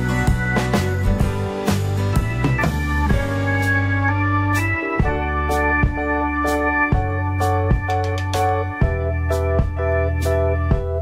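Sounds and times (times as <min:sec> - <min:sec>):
steady drum beat: 0:00.0 - 0:04.0, 0:05.0 - 0:09.9
held chords: 0:00.0 - 0:11.0.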